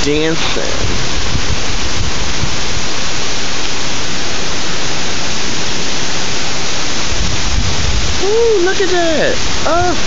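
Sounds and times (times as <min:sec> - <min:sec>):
strong wind and heavy rain: 0:00.0 - 0:10.0
wind buffeting microphone: 0:00.0 - 0:10.0.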